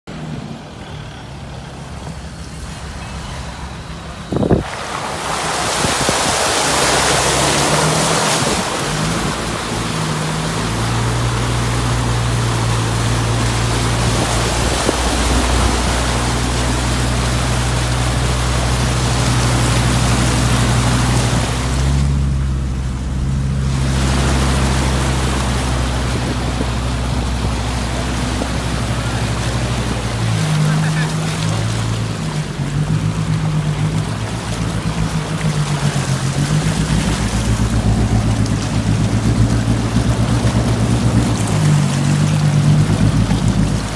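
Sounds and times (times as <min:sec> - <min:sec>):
diesel engine droning: 0:00.0 - 0:43.9
water rushing and splashing: 0:00.1 - 0:43.9.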